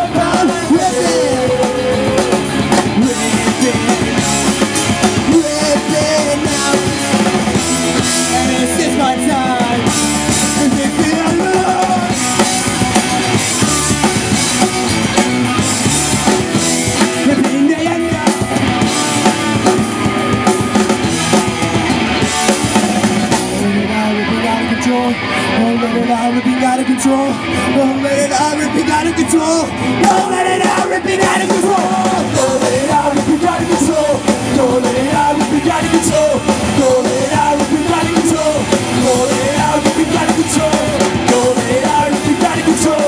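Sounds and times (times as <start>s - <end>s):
drum kit: 0.0s - 24.0s, 29.6s - 43.0s
bass guitar: 0.0s - 43.0s
electric guitars: 0.0s - 43.0s.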